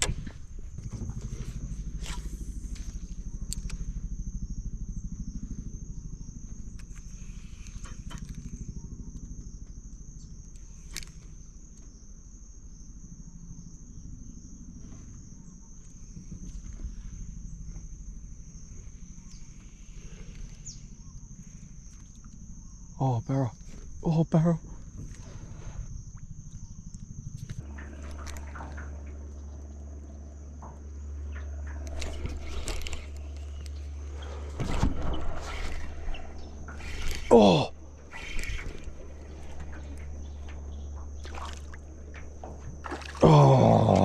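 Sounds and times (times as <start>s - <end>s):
insect drone: 0.0s - 44.0s
low continuous rumble: 0.0s - 44.0s.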